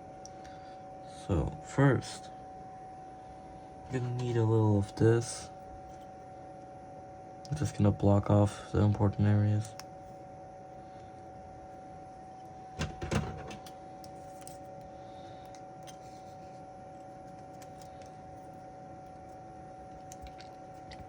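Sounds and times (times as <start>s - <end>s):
faint hum with high tone: 0.0s - 21.0s.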